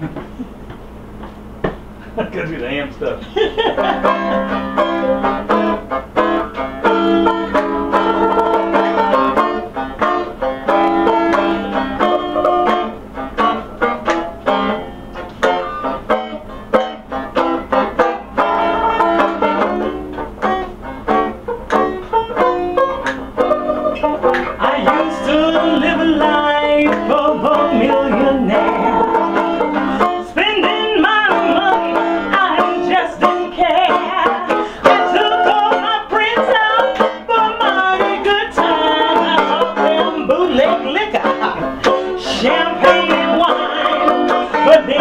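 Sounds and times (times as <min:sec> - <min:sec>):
banjo picking chords: 0:01.3 - 0:45.0.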